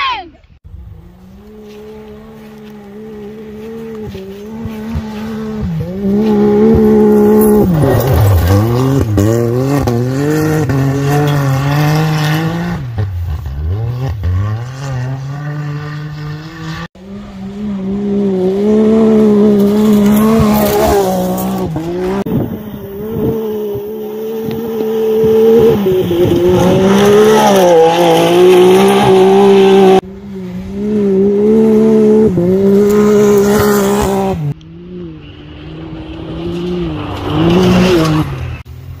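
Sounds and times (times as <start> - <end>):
off-road vehicle engine revving: 0.7 - 39.0.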